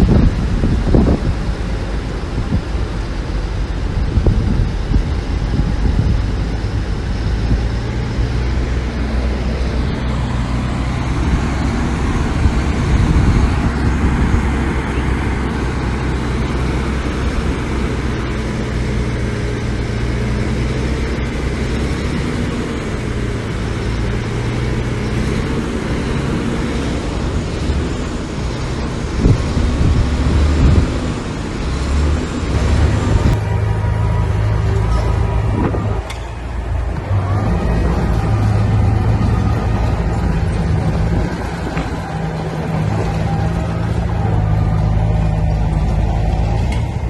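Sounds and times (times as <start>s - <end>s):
diesel engine under load: 0.0s - 47.0s.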